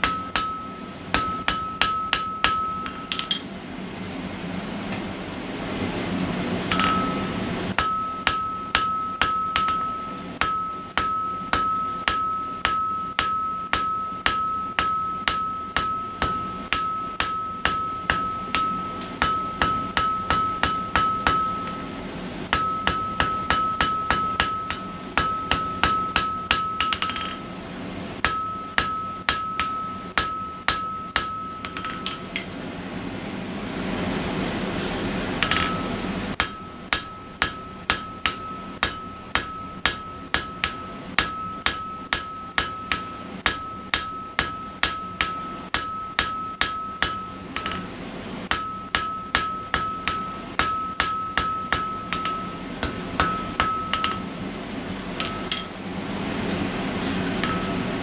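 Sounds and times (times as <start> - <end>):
anvil ringing: 0.0 - 3.5, 6.7 - 27.5, 28.2 - 32.5, 35.4 - 47.9, 48.5 - 54.4, 55.2 - 55.8, 57.4 - 58.0
hammer striking steel on anvil: 0.0 - 3.5, 6.7 - 27.5, 28.2 - 32.6, 35.4 - 54.5, 55.1 - 55.8, 57.1 - 58.0.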